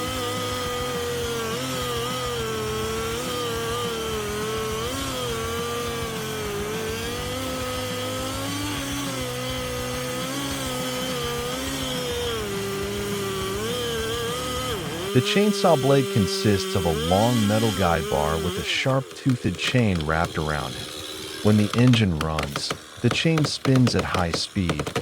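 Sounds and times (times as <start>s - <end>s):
chainsaw running: 0.0s - 25.0s.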